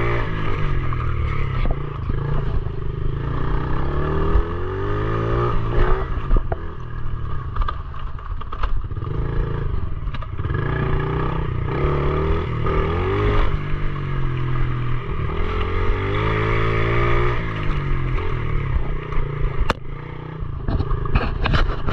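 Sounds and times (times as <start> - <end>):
motorbike engine revving: 0.0 - 7.7, 8.6 - 21.9.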